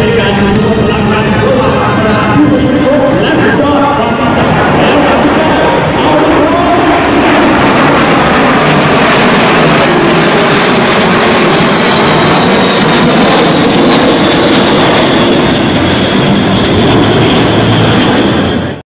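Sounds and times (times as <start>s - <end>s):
high jet whine falling in pitch: 0.0s - 18.8s
jet aircraft flying past: 0.0s - 18.8s.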